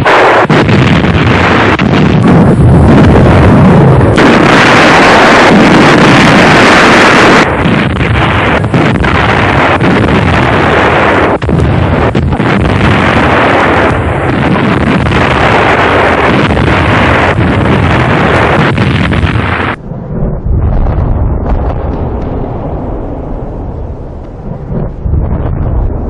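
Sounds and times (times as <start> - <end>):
artillery fire roar: 0.0 - 26.0.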